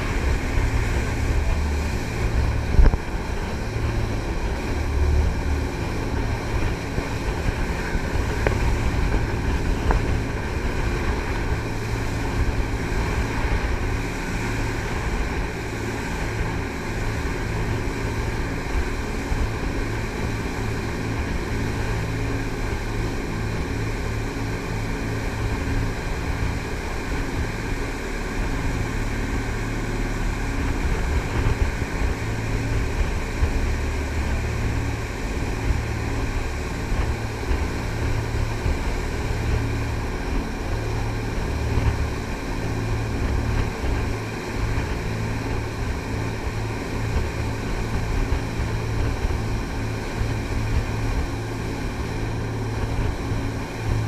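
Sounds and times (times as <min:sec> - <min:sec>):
boat diesel engines running: 0:00.0 - 0:54.0
wind buffeting microphone: 0:00.0 - 0:54.0.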